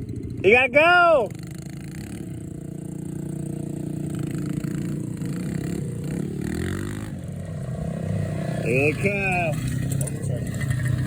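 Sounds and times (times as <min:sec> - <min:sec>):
pit bike engines racing: 0:00.0 - 0:11.0.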